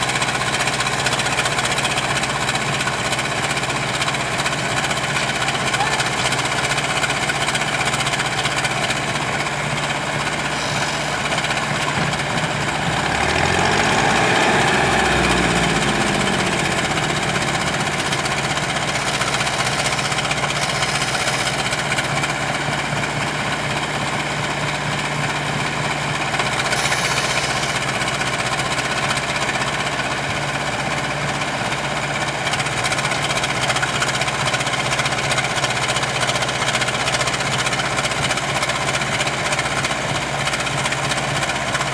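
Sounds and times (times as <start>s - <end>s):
diesel engine revving: 0.0s - 41.9s.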